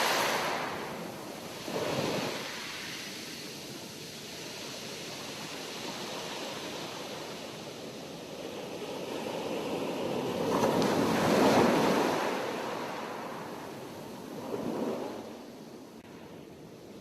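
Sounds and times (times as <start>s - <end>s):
sea waves breaking: 0.0s - 15.4s.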